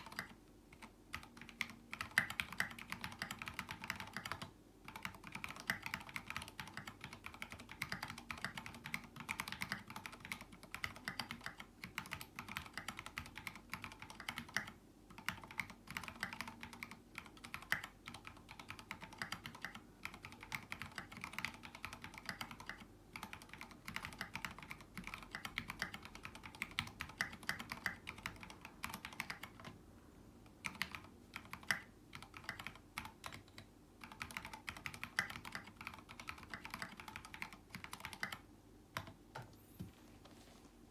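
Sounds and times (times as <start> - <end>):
typing on mechanical keyboard: 0.0 - 29.8, 30.4 - 39.5.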